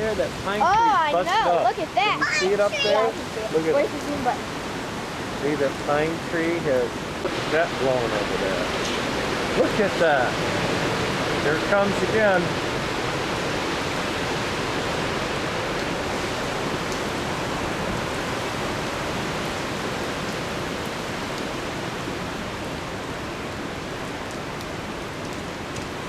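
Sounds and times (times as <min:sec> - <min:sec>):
strong wind gusting: 0:00.0 - 0:23.9.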